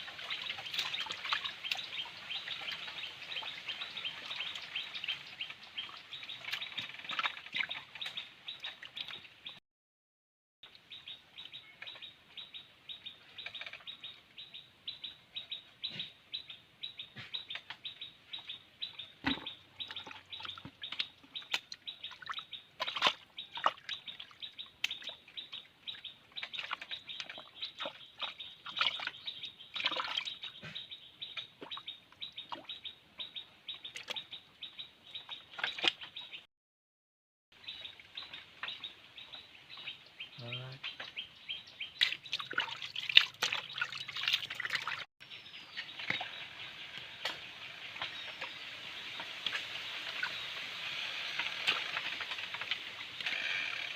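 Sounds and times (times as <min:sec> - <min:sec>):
small birds chirping: 0:00.0 - 0:09.6, 0:10.6 - 0:36.5, 0:37.5 - 0:53.9.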